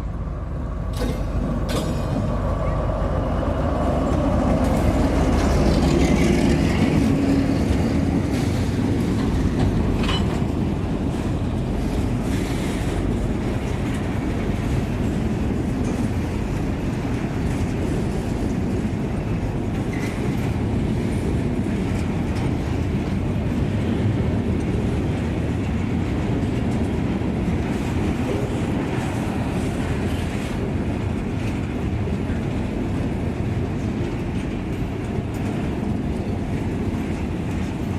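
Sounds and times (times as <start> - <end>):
freight train rolling past: 0.0 - 37.9.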